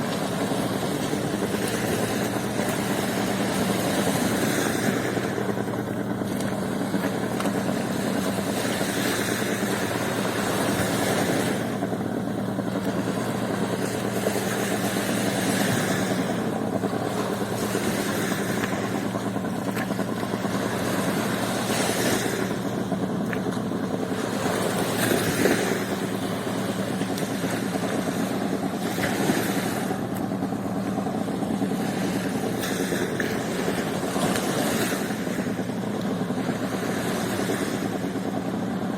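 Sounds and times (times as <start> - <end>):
engine hum: 0.0 - 38.9
sea waves washing on beach: 0.0 - 38.9.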